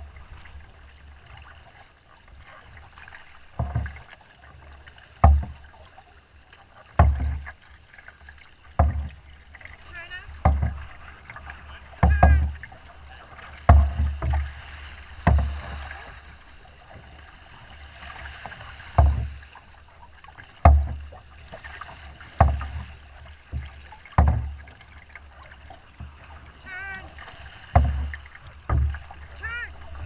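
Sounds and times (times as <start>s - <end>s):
boat hull thumping with splash: 0.0s - 30.0s
choppy water washing: 0.0s - 30.0s.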